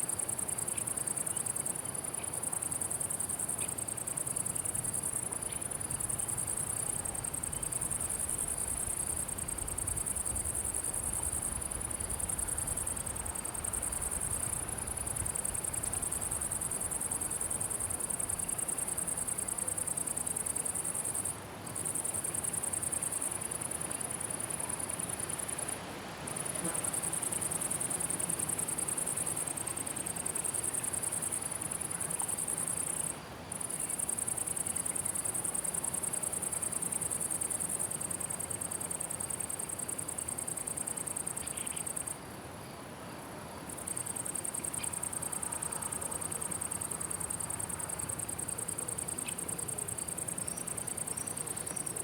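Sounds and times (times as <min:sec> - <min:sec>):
insects stridulating: 0:00.0 - 0:52.0.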